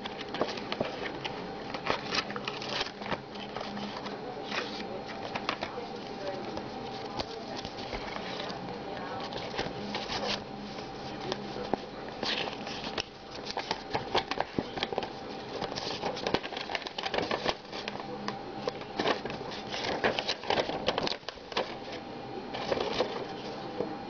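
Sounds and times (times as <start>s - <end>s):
paper leaflet rustling and crackling: 0.0s - 23.7s.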